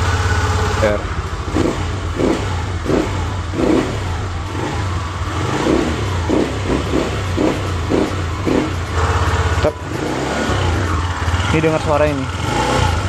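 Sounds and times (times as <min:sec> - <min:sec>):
scooter engine idling with throttle blips: 0:00.0 - 0:13.0.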